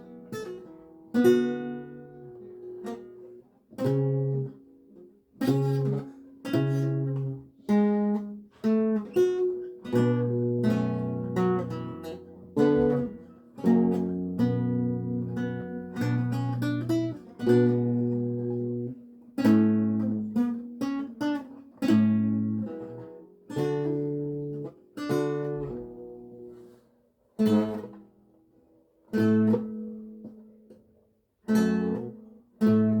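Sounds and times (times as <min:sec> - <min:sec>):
solo lute plucked chords: 0:00.0 - 0:26.7, 0:29.0 - 0:30.8, 0:31.4 - 0:33.0.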